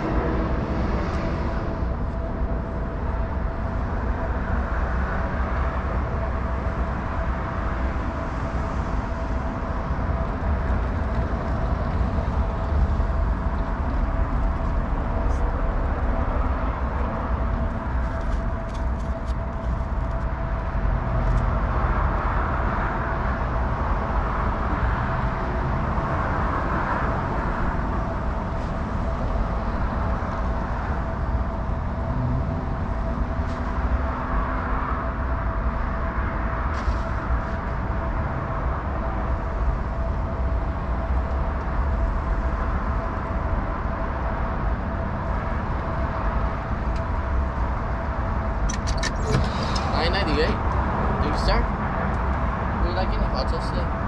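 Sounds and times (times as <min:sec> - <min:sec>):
constant thin hum: 0:00.0 - 0:54.0.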